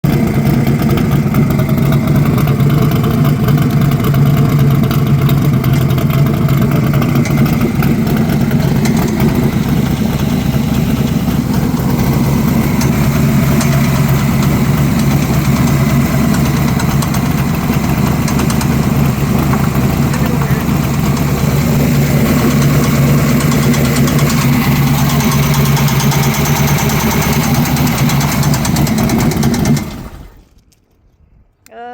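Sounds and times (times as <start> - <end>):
car engine idling: 0.0 - 30.6
fast ticking: 0.1 - 30.3.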